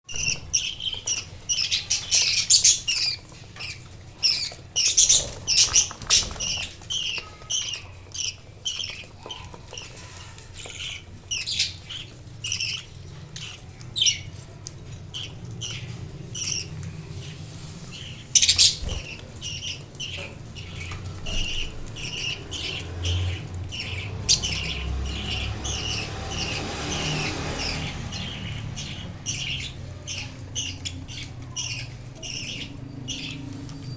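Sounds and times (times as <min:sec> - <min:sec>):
budgerigars chirping: 0:00.1 - 0:14.4, 0:15.1 - 0:33.9.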